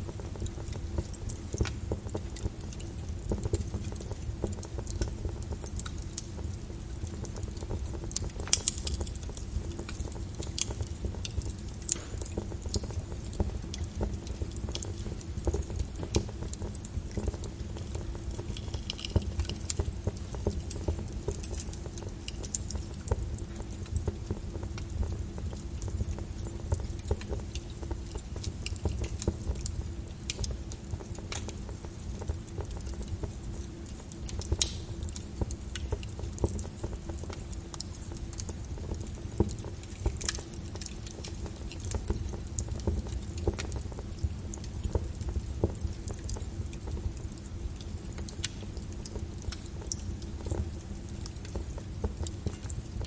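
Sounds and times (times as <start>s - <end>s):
low rumble of flames: 0.0s - 53.0s
wood fire crackling: 0.0s - 53.0s.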